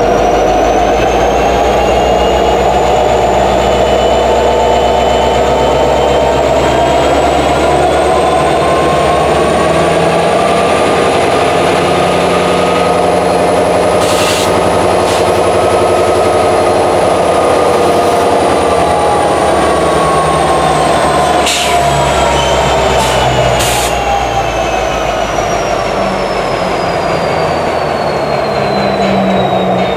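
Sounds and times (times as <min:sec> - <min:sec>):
diesel locomotive engine running: 0:00.0 - 0:29.9.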